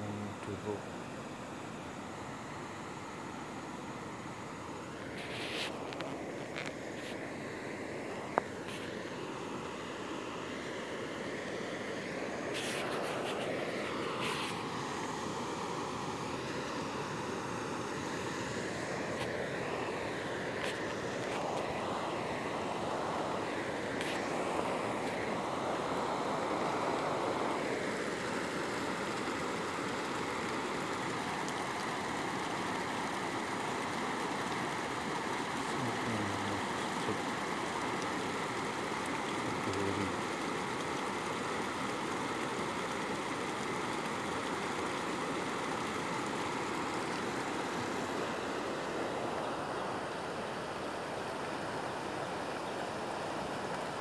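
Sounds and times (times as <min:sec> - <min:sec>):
stream rushing over rapids: 0:00.0 - 0:54.0.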